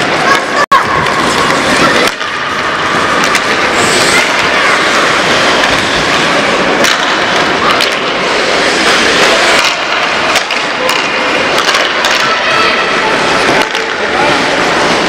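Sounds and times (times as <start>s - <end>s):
players and spectators voices: 0.0s - 15.0s
skates scraping on ice: 0.0s - 15.0s
sticks clacking on puck: 0.0s - 15.0s.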